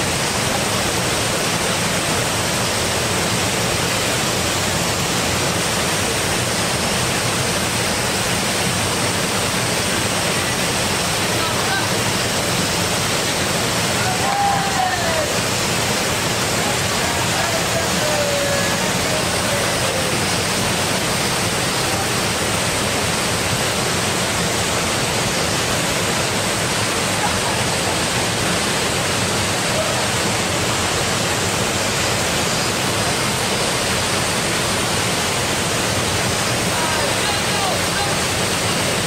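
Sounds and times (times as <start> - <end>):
small waterfall rushing: 0.0 - 39.0.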